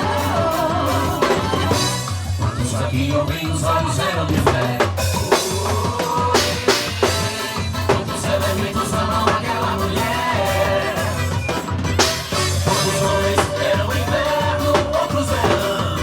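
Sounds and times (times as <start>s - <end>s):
drum kit strikes: 0.0s - 2.6s, 4.4s - 16.0s
person singing: 0.0s - 11.4s, 12.6s - 16.0s
steady bass: 0.0s - 16.0s.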